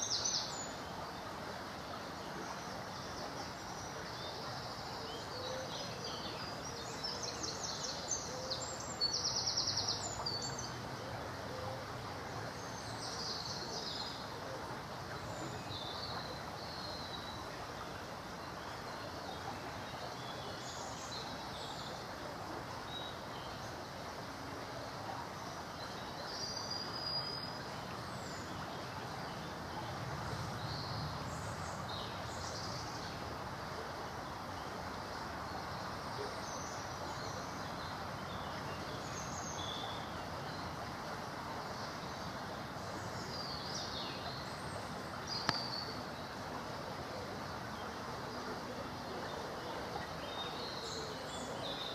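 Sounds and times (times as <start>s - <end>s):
background hiss: 0.0s - 51.9s
songbirds singing: 0.0s - 51.9s.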